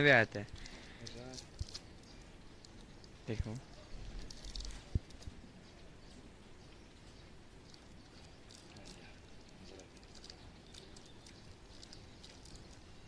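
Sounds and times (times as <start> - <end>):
quiet outdoor background: 0.0 - 13.0.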